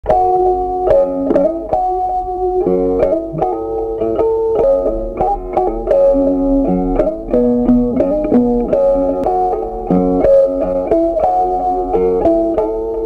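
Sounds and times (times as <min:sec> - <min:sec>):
plucked guitar tune: 0:00.0 - 0:13.0.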